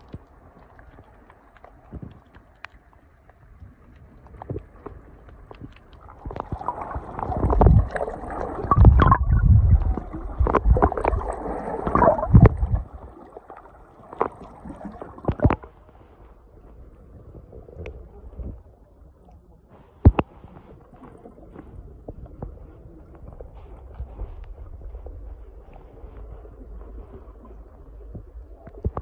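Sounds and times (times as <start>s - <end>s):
underwater gurgling and sloshing: 0.0s - 29.0s.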